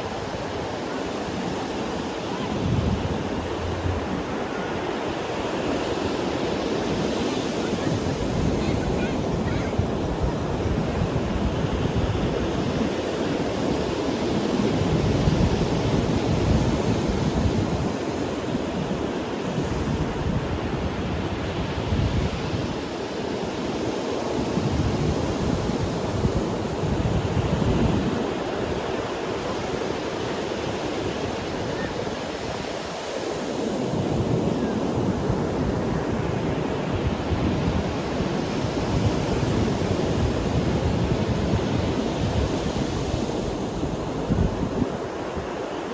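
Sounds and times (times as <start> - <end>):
ocean waves breaking on beach: 0.0 - 45.9
wind buffeting microphone: 0.0 - 45.9.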